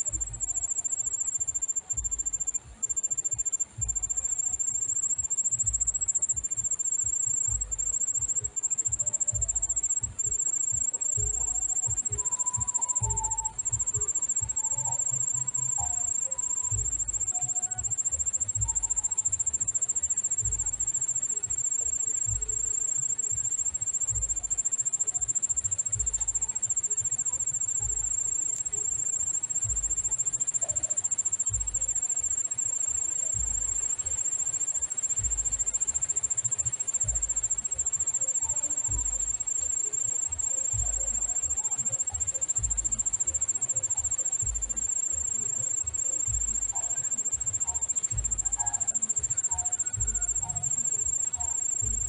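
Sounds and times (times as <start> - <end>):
insect trilling: 0.0 - 52.0.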